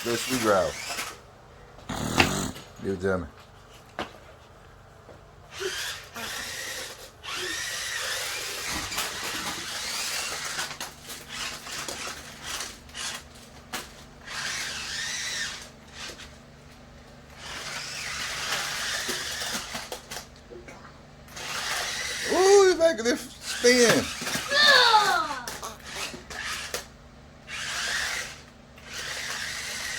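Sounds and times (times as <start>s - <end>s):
toy car electric motors whirring: 0.0s - 1.2s, 5.4s - 20.4s, 21.3s - 29.9s.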